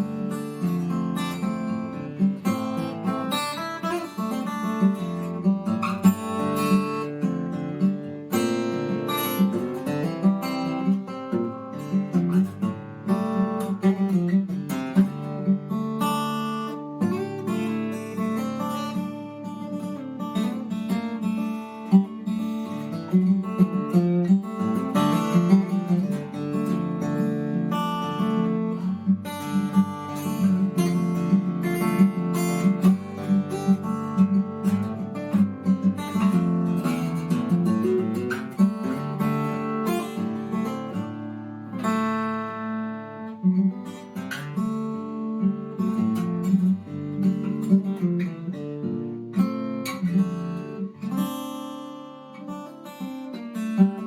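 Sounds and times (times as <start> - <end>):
acoustic guitar plucking and strumming: 0.0 - 54.0.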